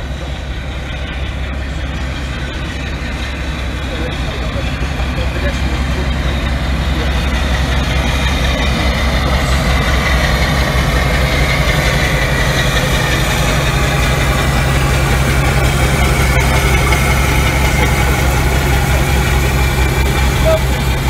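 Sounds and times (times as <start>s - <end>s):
diesel locomotive engines running: 0.0s - 21.0s.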